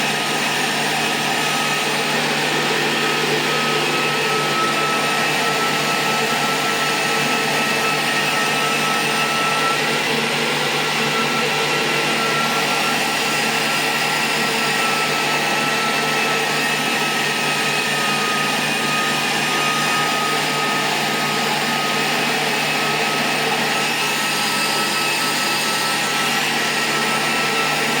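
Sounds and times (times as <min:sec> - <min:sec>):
machine whir: 0:00.0 - 0:28.0.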